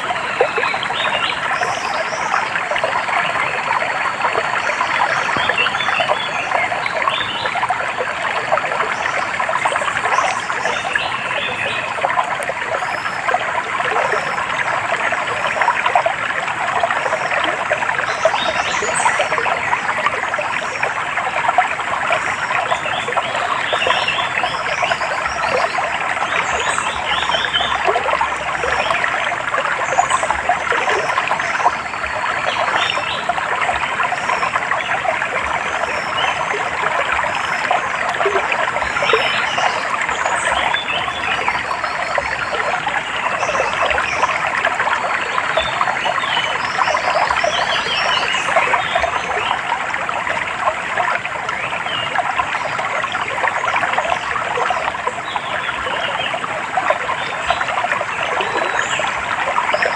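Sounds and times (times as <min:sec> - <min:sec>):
stream trickling over stones: 0:00.0 - 0:59.9.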